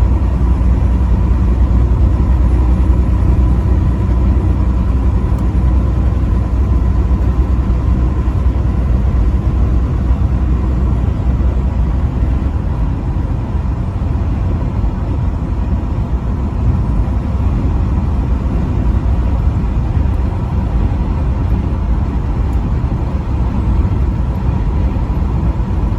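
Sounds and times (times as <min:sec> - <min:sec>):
truck engine and road noise: 0:00.0 - 0:25.9.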